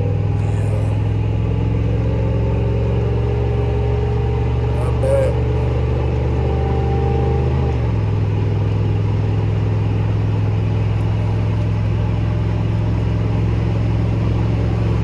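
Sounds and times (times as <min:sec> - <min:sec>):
pickup engine running: 0:00.0 - 0:06.6, 0:07.4 - 0:15.0.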